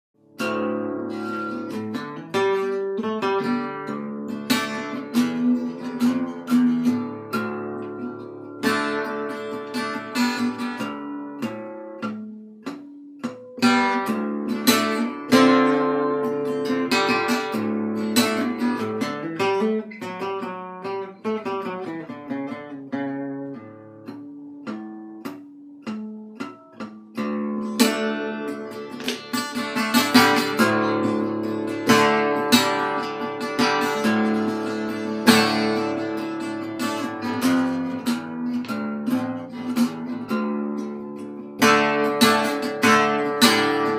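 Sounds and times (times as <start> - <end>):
acoustic guitar picked and strummed: 0.2 - 43.9.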